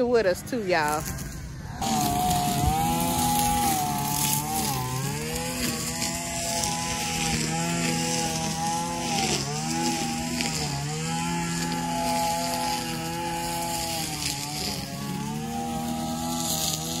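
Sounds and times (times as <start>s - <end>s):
string trimmer engine running: 0.0s - 17.0s.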